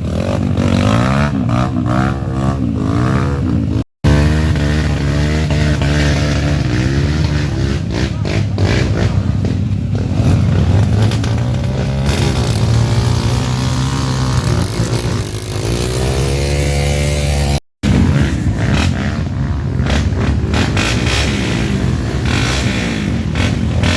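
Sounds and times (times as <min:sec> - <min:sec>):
off-road motorcycle engines revving: 0:00.0 - 0:23.9.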